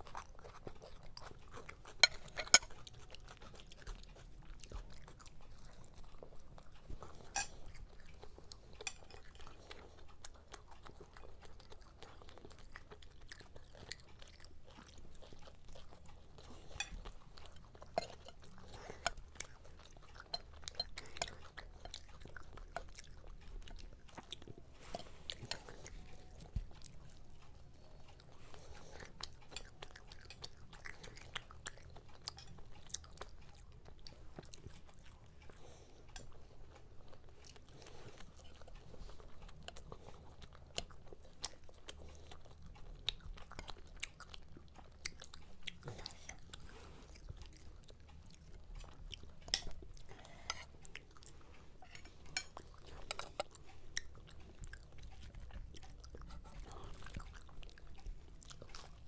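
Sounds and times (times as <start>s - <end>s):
chewing crunchy fried food: 0.0s - 59.0s.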